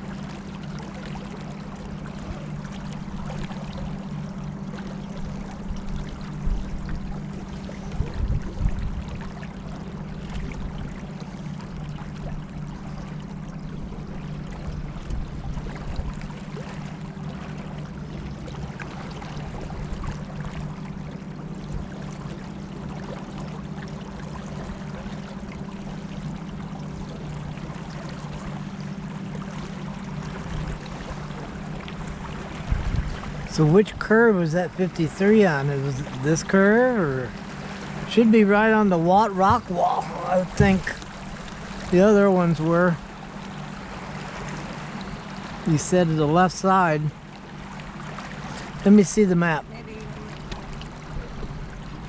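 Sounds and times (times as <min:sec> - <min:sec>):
motorboat engine humming: 0:00.0 - 0:52.0
water rushing past hull: 0:00.0 - 0:52.0.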